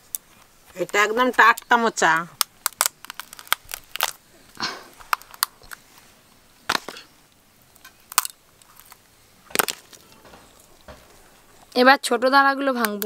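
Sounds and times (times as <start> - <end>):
crab shell cracking: 0.0 - 5.8, 6.7 - 11.7.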